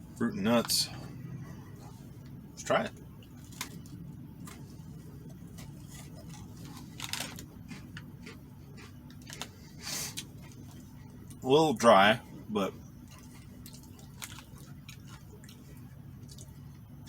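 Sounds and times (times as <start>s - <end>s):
steady low hum: 0.0s - 17.0s
man chewing cookie: 0.9s - 11.4s, 12.2s - 17.0s.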